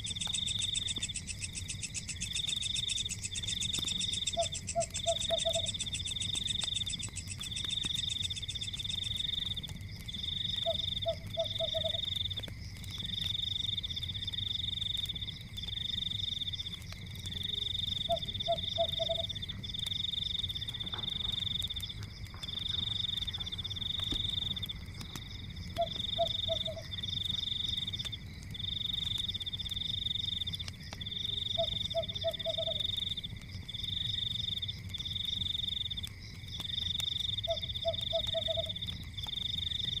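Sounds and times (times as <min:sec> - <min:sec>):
frogs croaking: 0:00.0 - 0:40.0.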